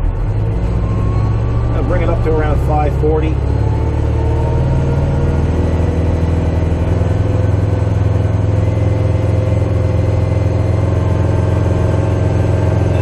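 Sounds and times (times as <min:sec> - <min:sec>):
diesel tractor engine humming: 0:00.0 - 0:13.0.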